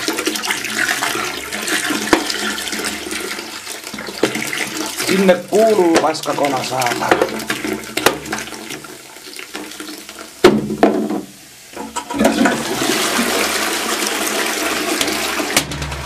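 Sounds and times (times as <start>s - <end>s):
can clunking into toilet bowl: 0.0s - 3.3s, 3.9s - 14.2s, 14.8s - 16.0s
cola pouring into toilet bowl: 0.0s - 15.7s
toilet flushing: 0.0s - 16.0s.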